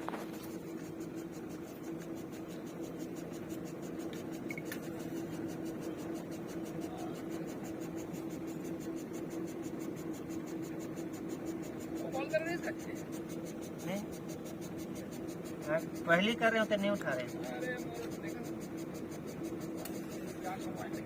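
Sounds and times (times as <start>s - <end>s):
drilling rig humming: 0.0s - 21.0s
fast even ticking: 0.0s - 21.0s.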